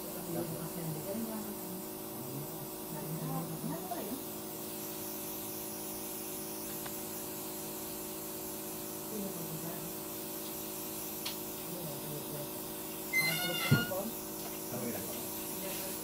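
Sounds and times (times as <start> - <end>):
oxygen spray hiss: 0.0 - 16.0.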